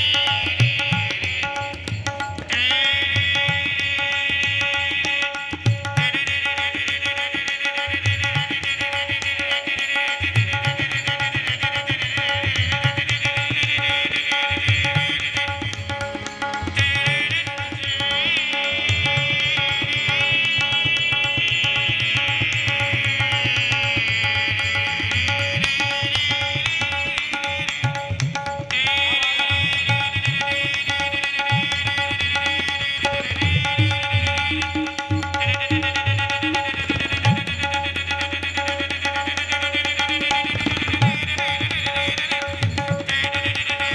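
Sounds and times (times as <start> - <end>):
tabla drumming: 0.0 - 43.9.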